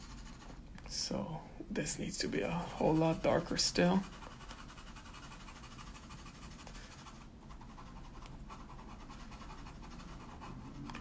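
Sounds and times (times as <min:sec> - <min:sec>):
colored pencil scratching on paper: 0:00.0 - 0:00.6, 0:02.1 - 0:11.0.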